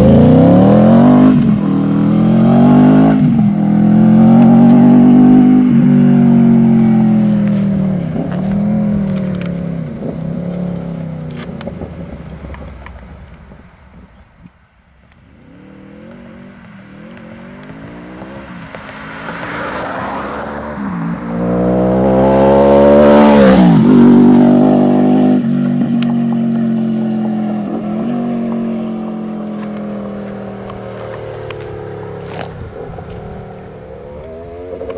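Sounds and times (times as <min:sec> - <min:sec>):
motorcycle engine revving: 0:00.0 - 0:13.6, 0:15.3 - 0:34.9.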